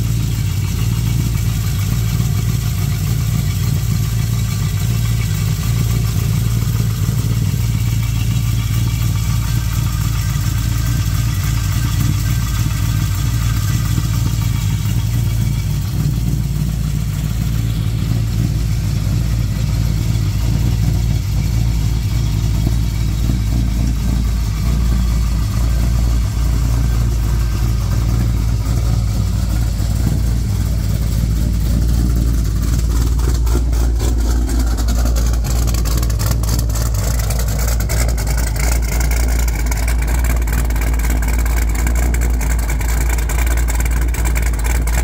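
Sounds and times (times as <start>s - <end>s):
v-eight engine idling with lope: 0.0s - 45.0s.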